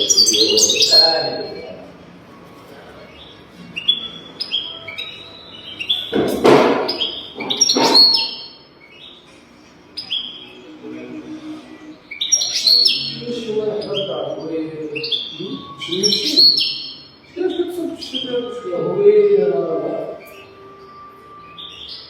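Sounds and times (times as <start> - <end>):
goldfinch chirping song: 0.0 - 1.8, 3.1 - 11.2, 12.0 - 22.0.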